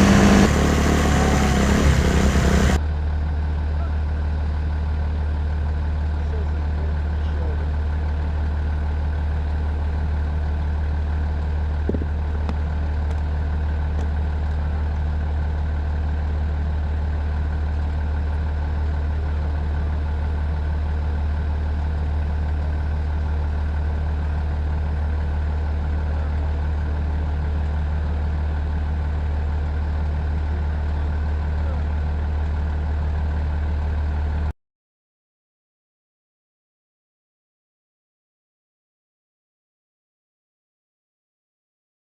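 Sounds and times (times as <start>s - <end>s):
engine idling: 0.0s - 34.5s.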